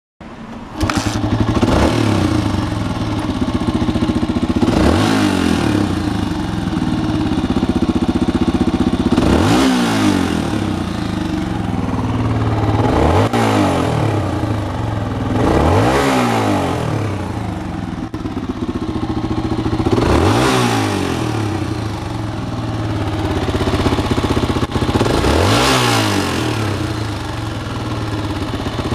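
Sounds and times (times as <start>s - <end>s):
motorcycle engine idling and revving: 0.2s - 28.9s.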